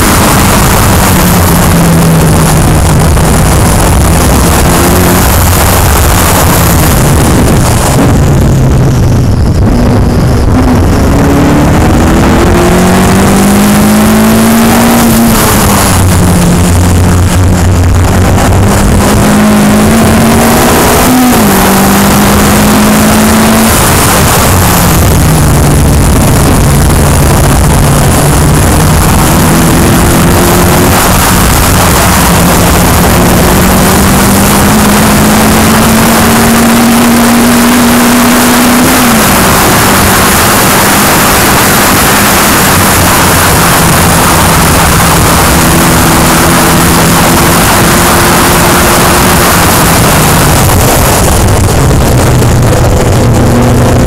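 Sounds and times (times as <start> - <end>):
race car engine revving: 0.0 - 54.0
wind noise on microphone: 0.0 - 54.0.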